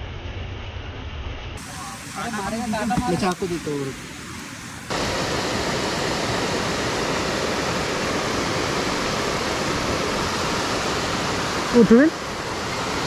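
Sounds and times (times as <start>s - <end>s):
water rushing over spillway: 1.6s - 13.0s.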